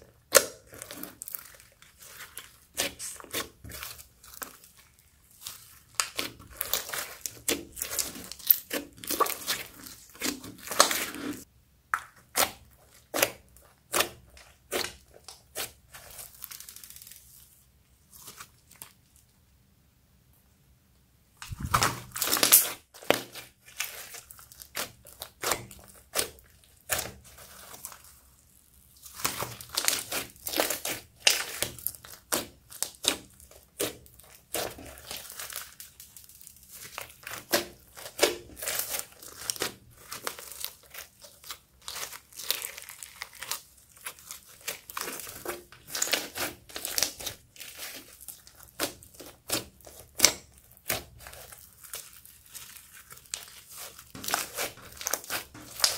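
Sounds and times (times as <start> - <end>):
slime popping and crackling: 0.1 - 17.4, 21.4 - 55.9.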